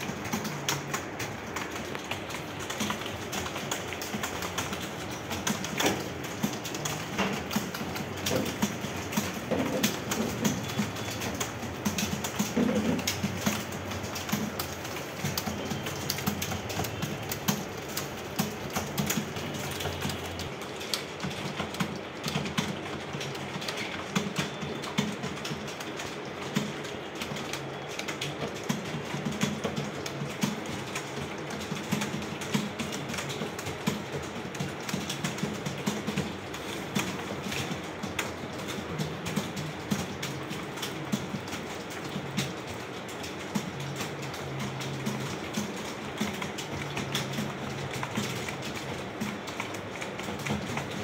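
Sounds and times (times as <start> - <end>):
keyboards typing clatter: 0.0 - 51.0.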